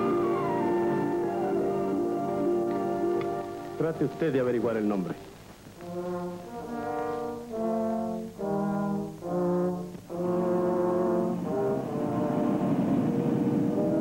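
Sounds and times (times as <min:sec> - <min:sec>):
brass chords in film music: 0:00.0 - 0:14.0.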